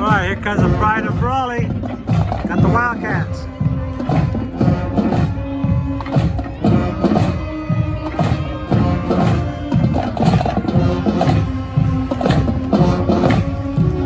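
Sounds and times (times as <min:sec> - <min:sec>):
brass chords: 0:00.0 - 0:14.0
marching drum beat: 0:00.0 - 0:14.0.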